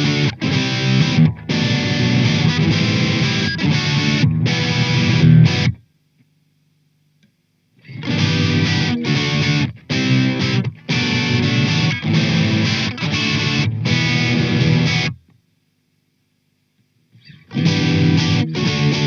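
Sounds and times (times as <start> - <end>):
distorted electric guitar chords: 0.0 - 5.9, 7.8 - 15.3, 17.2 - 19.0.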